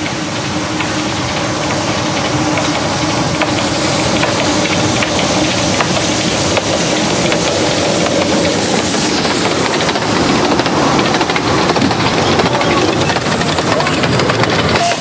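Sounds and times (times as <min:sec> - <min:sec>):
steam locomotive hissing: 0:00.0 - 0:15.0
wheels clattering: 0:01.2 - 0:15.0.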